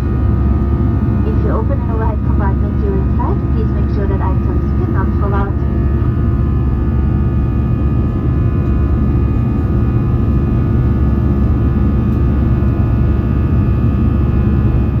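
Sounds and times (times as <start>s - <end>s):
humming tones: 0.0s - 14.6s
jet engine cabin rumble: 0.0s - 15.0s.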